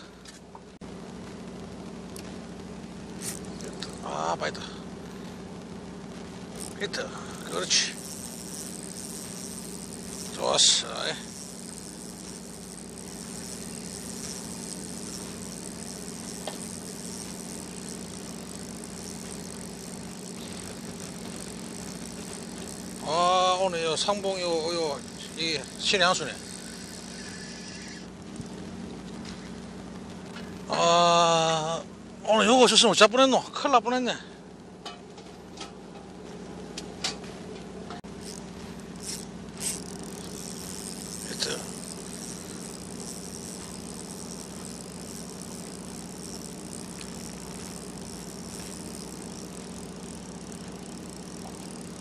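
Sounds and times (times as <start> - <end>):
boat engine humming: 0.0 - 33.4, 34.0 - 52.0.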